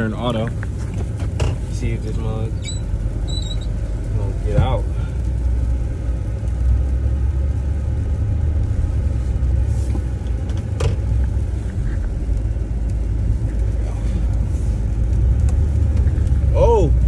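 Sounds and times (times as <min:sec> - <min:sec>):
engine rumble from inside cabin: 0:00.0 - 0:17.0.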